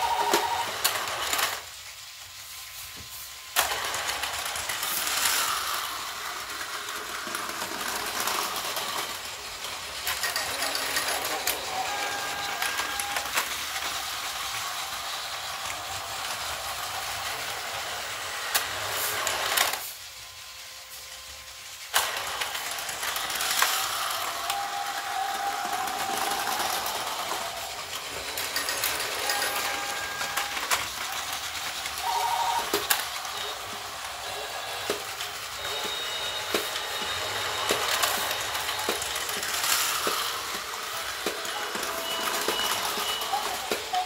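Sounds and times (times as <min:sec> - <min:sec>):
toy train motor whirring: 0:00.0 - 0:44.0.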